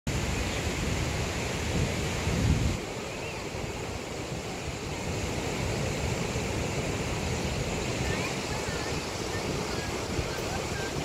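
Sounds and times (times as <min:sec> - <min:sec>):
waterfall rushing: 0:00.1 - 0:11.0
wind buffeting microphone: 0:00.4 - 0:11.0.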